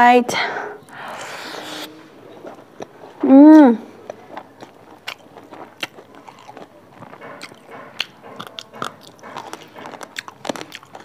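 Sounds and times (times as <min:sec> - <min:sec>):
close chewing mouth sounds: 0:00.8 - 0:11.0.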